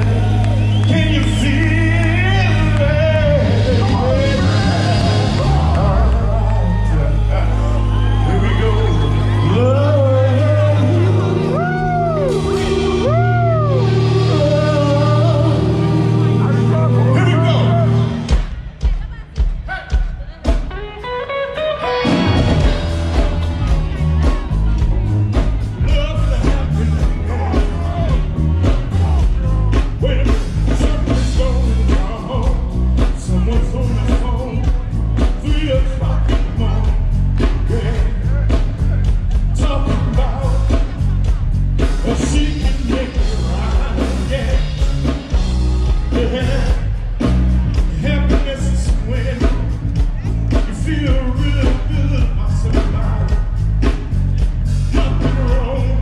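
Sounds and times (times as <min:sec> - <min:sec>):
steady drum beat: 0:00.0 - 0:06.8, 0:07.4 - 0:21.2, 0:22.0 - 0:56.0
person singing: 0:00.0 - 0:18.3, 0:19.1 - 0:54.0, 0:54.8 - 0:56.0
heavy bass line: 0:00.0 - 0:56.0
rock and roll band playing: 0:00.0 - 0:56.0.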